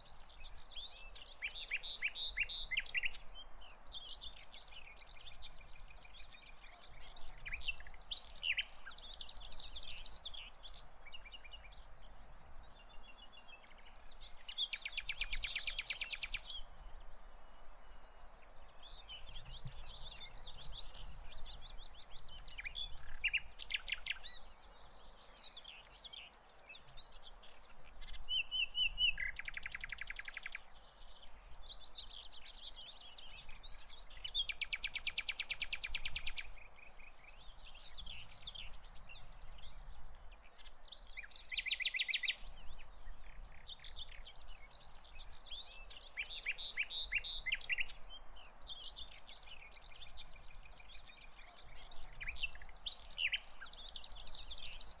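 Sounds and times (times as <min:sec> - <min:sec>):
faint outdoor hiss: 0:00.0 - 0:55.0
songbirds singing and chirping: 0:00.0 - 0:55.0.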